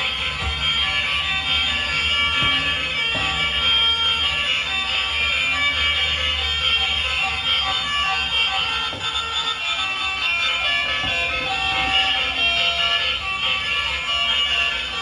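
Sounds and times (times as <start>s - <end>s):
electronic alarm buzzing: 0.0s - 15.0s.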